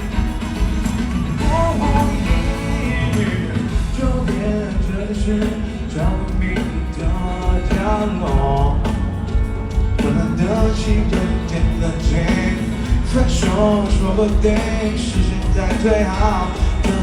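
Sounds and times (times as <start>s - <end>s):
live pop-rock band: 0.0s - 17.0s
person singing: 1.4s - 9.0s, 9.8s - 17.0s.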